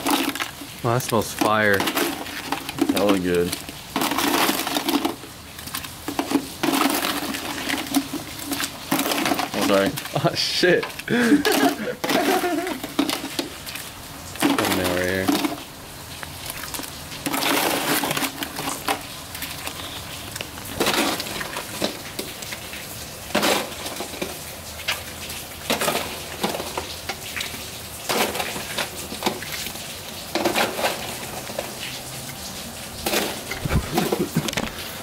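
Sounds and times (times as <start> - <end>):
crawfish shells cracking: 0.0 - 31.9.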